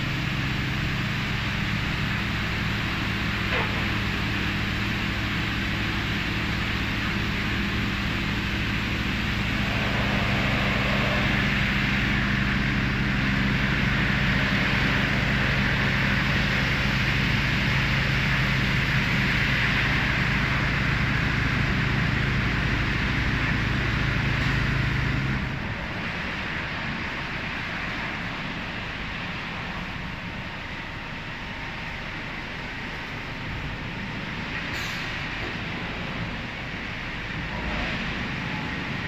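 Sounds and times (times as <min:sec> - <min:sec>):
machine hum: 0:00.0 - 0:34.6.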